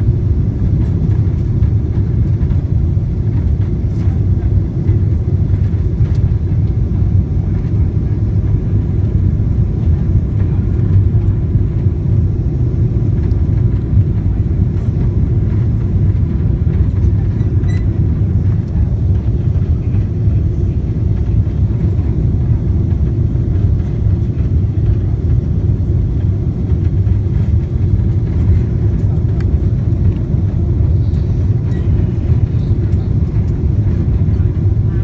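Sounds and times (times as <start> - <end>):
jet engine rumble in cabin: 0.0 - 35.0.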